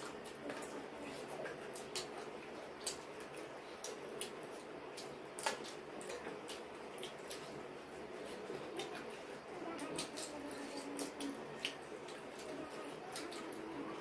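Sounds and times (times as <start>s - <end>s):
chewing and wet mouth clicks: 0.0s - 7.6s, 9.7s - 13.7s.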